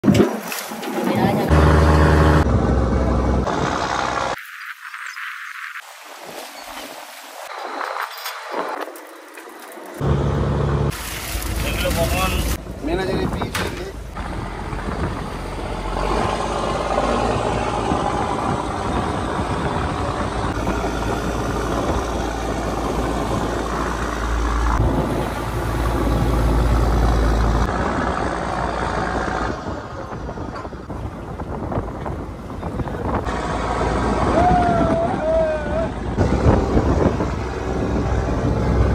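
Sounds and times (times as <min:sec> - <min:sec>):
boat engine rumbling: 0:00.8 - 0:04.4, 0:10.0 - 0:38.9
water wash: 0:03.4 - 0:10.1, 0:10.8 - 0:38.9.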